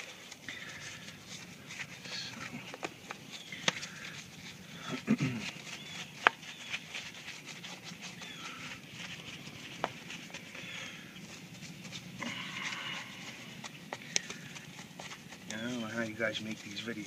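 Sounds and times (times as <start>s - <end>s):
brush bristles rasping: 0.0s - 17.0s.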